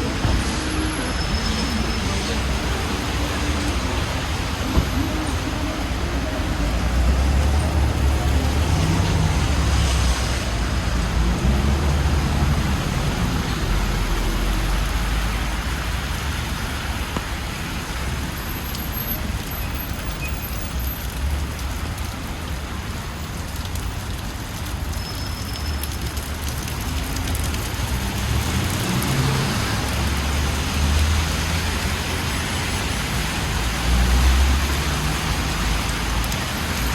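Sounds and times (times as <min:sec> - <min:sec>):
passing cars rumbling: 0:00.0 - 0:18.8, 0:25.8 - 0:36.9
rain and tyres on wet road: 0:00.0 - 0:36.9.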